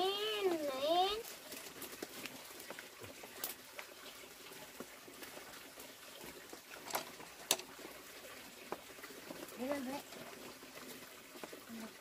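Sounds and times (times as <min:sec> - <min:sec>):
pot simmering on wood fire: 0:00.0 - 0:12.0.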